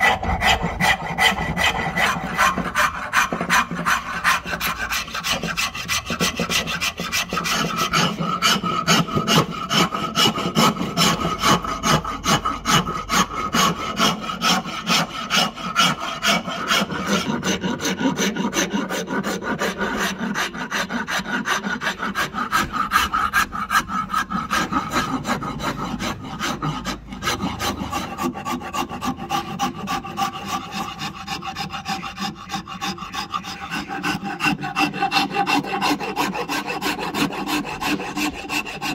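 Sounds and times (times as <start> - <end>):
file scraping wood: 0.0 - 38.9.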